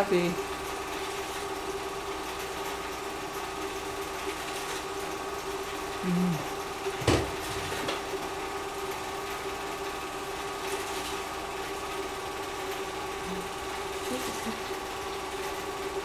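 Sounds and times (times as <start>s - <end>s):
film projector whirring: 0.0s - 16.0s.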